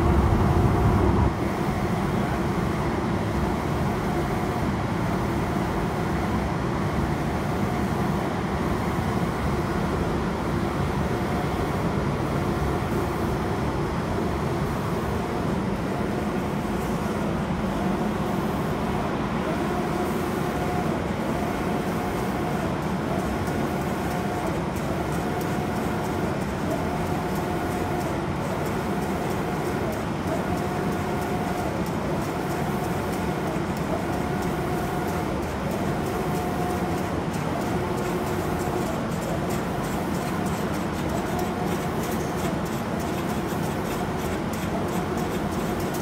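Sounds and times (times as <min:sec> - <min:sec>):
hum of fans and air: 0:00.0 - 0:46.0.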